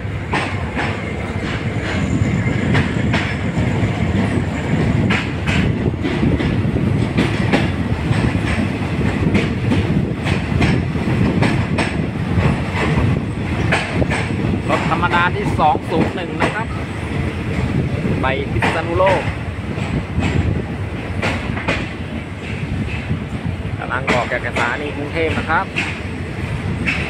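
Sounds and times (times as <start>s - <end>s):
train rumbling: 0.0s - 27.0s
wheels clacking over rail joints: 0.0s - 27.0s.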